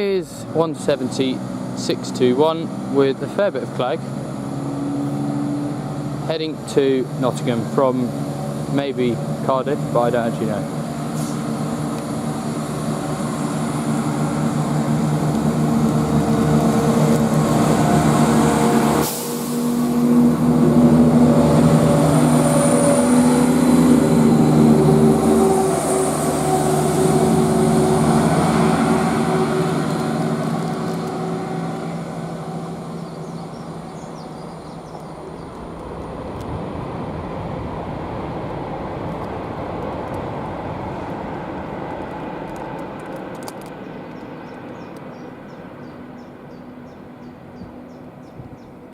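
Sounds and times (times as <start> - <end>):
diesel train engines working hard: 0.0 - 48.9.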